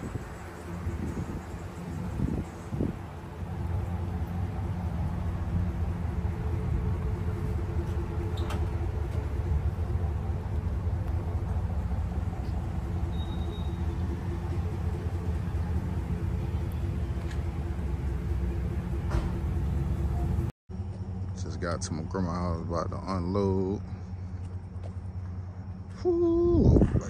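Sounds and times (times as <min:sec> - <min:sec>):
vehicle engine and tyres rumbling: 0:00.0 - 0:27.0.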